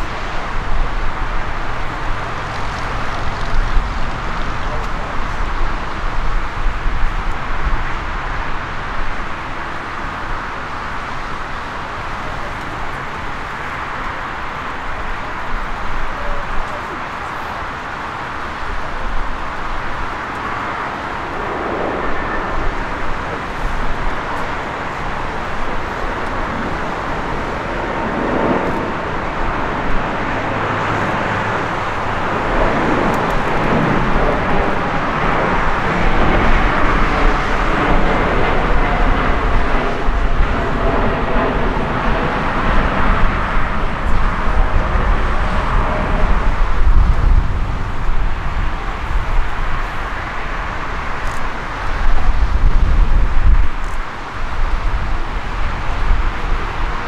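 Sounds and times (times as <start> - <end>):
jet engine rushing rumble: 0.0 - 57.0.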